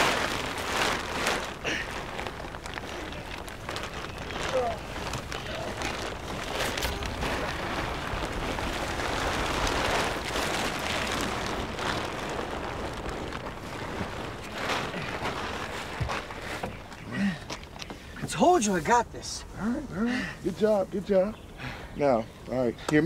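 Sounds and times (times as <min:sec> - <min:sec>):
plastic sheeting crinkling: 0:00.0 - 0:21.4.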